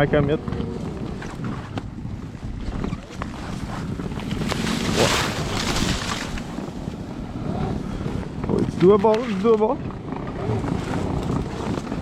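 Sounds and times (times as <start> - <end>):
snow track churning rumble: 0.0 - 12.0
wind buffeting microphone: 0.0 - 12.0.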